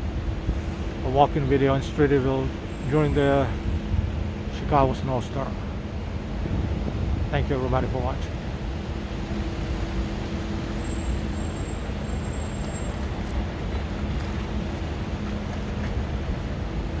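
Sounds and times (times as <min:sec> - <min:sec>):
low engine hum: 0:00.0 - 0:17.0
rumble of passing vehicles: 0:00.0 - 0:17.0.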